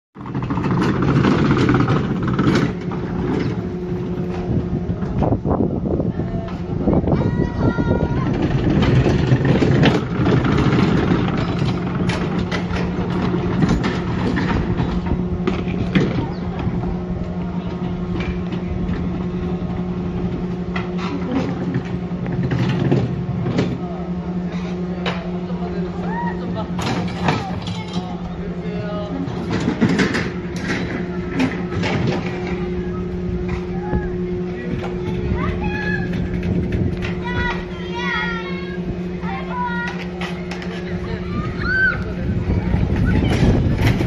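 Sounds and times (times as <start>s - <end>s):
chairlift machinery rumbling: 0.2s - 44.0s.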